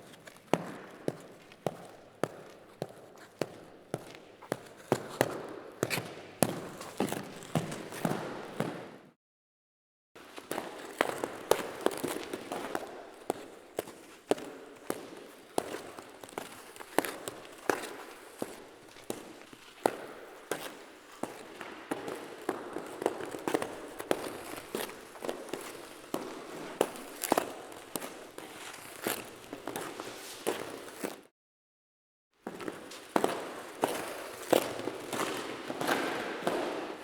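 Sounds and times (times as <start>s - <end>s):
skate blades striking and scraping ice: 0.0s - 9.2s, 10.3s - 31.3s, 32.5s - 37.0s.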